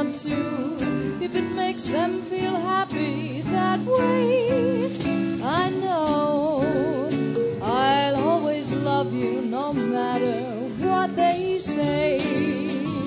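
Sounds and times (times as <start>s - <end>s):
swing band playing live: 0.0s - 13.0s.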